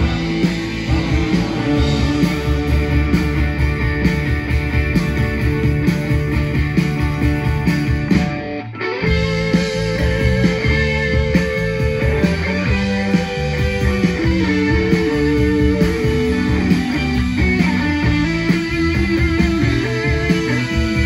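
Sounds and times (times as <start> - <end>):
bass guitar: 0.0 - 21.0
drums steady beat: 0.0 - 21.0
electric guitars: 0.0 - 21.0.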